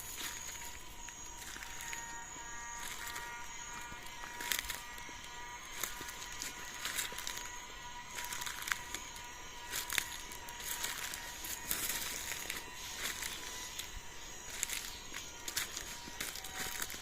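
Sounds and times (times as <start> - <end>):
footsteps crunching through dry leaves: 0.0 - 17.0
insects buzzing: 0.0 - 17.0.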